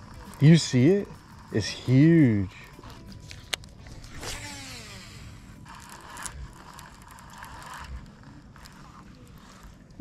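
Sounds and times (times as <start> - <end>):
fishing reel gears whirring: 0.0 - 10.0.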